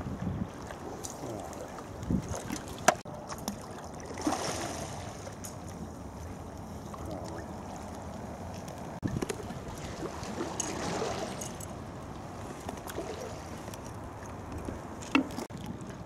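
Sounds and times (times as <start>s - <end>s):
wind on microphone: 0.0s - 3.0s, 5.8s - 16.0s
sea water lapping: 0.0s - 16.0s.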